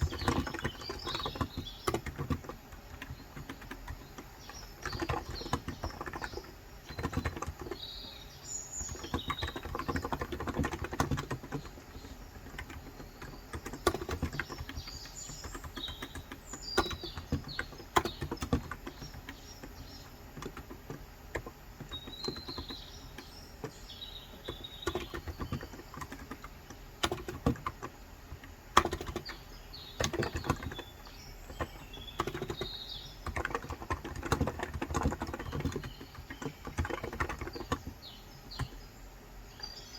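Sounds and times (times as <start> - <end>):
keyboard typing: 0.0 - 38.8
birds chirping: 0.0 - 39.9.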